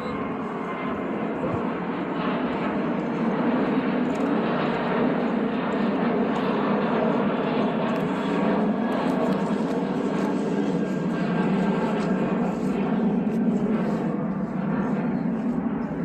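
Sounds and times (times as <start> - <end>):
airplane engine rushing: 0.0 - 16.0.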